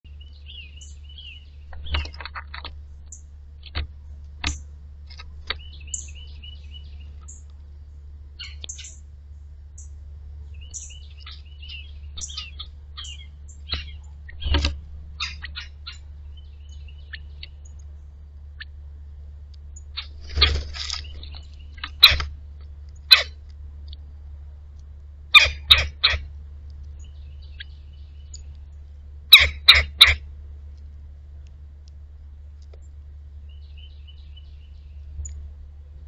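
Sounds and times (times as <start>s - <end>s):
songbirds chirping: 0.0s - 36.0s
steady low hum: 0.0s - 36.0s.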